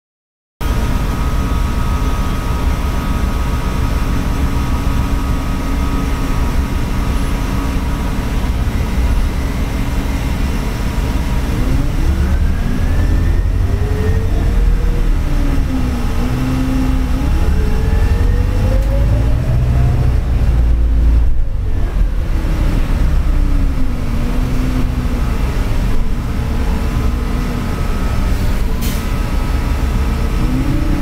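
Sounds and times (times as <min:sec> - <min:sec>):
bus engine and road rumble: 0:00.6 - 0:31.0
drivetrain whine: 0:00.6 - 0:31.0.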